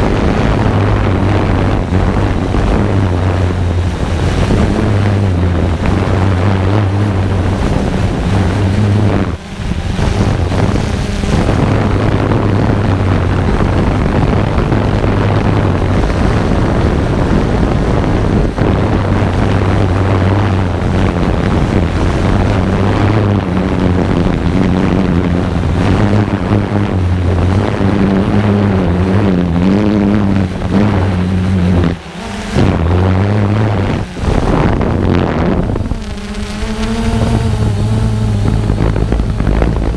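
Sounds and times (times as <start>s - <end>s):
drone motors humming: 0.0s - 39.9s
wind noise: 0.0s - 39.9s.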